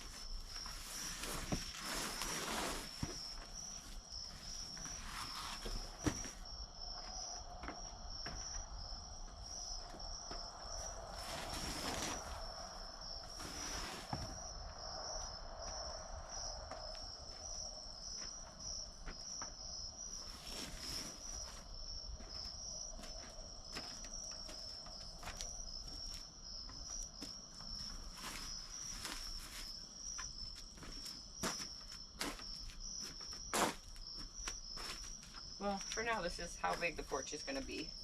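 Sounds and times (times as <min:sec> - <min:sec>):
footsteps: 0:00.0 - 0:12.4, 0:16.6 - 0:37.7
night insects trilling: 0:00.0 - 0:38.0.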